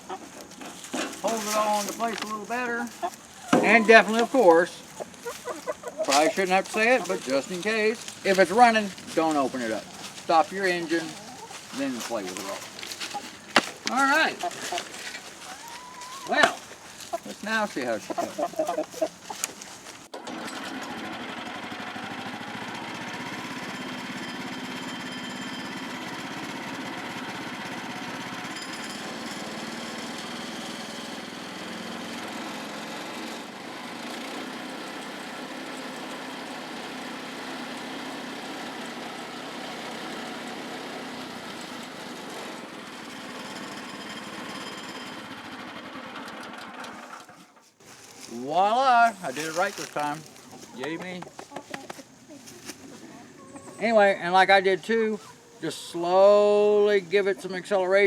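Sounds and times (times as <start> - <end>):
sawmill engine running: 0.4 - 47.4.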